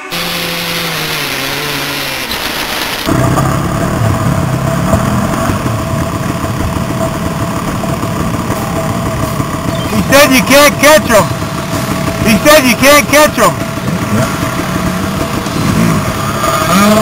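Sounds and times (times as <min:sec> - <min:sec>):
dirt bike engine running: 0:00.0 - 0:17.0
several dirt bikes revving: 0:00.0 - 0:17.0.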